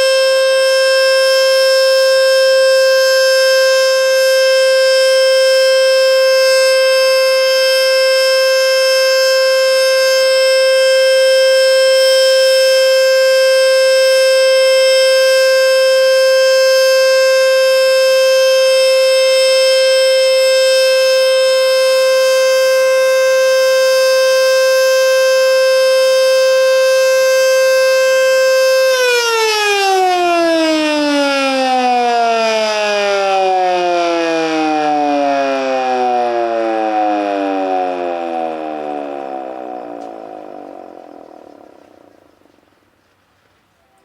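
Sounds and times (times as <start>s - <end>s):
steady warning siren: 0.0s - 44.0s.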